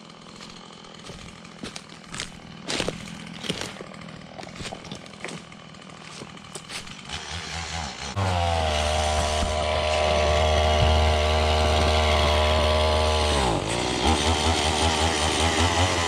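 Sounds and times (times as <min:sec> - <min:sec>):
distant chainsaw running: 0:00.0 - 0:16.0
loud motor with sliding pitch: 0:00.3 - 0:16.0.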